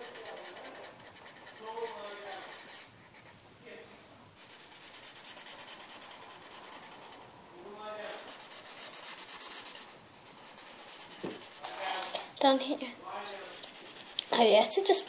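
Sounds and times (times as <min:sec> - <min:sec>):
marker scribbling on paper: 0:00.0 - 0:03.4, 0:04.4 - 0:07.2, 0:08.0 - 0:12.1, 0:13.1 - 0:15.0.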